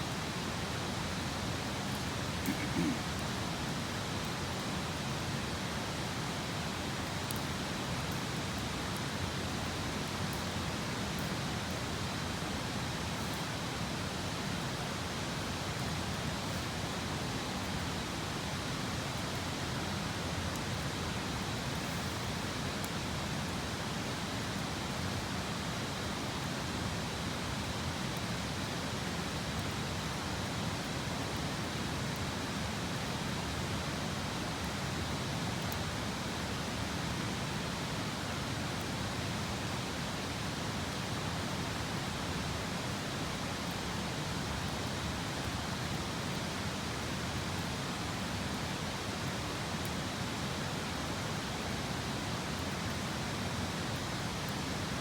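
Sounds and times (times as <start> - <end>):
campfire crackles: 0.1 - 55.0.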